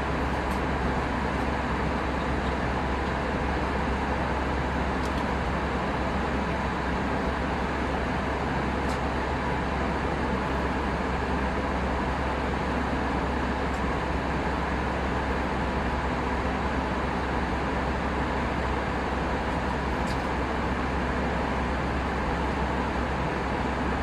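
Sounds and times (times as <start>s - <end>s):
airplane cabin noise: 0.0s - 24.0s.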